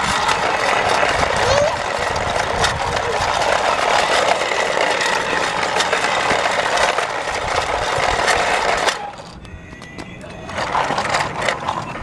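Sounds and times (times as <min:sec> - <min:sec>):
toy train motor whirring: 0:00.0 - 0:12.0
toy train wheels clicking and rattling: 0:00.0 - 0:12.0.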